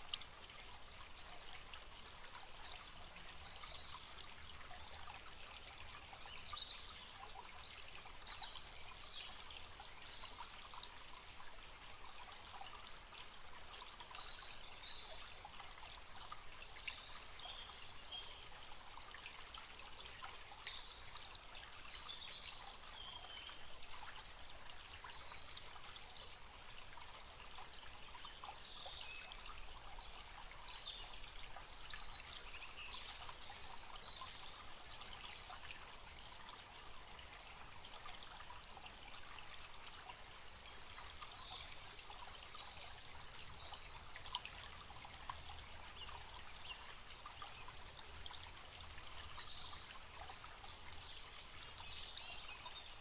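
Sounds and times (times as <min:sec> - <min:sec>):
forest stream trickling: 0:00.0 - 0:53.0.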